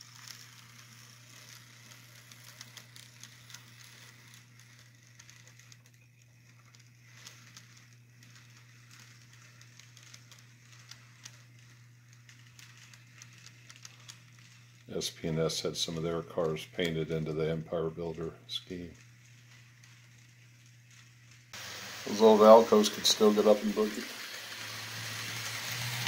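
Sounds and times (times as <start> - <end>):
model train cars clicking and rattling: 0.0 - 26.0.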